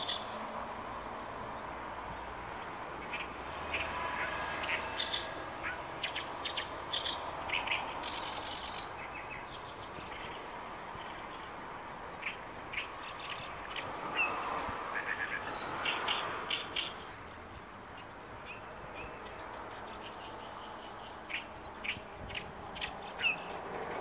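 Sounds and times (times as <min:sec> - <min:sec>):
reed warbler chattering song: 0:00.0 - 0:24.0.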